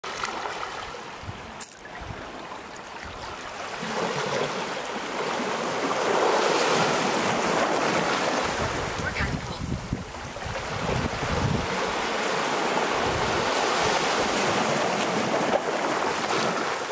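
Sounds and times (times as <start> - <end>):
waves washing over pebbles: 0.0 - 16.9.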